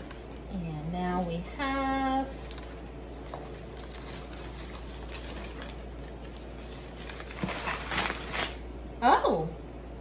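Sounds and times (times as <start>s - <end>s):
newspaper crinkling and rustling: 0.0s - 8.7s.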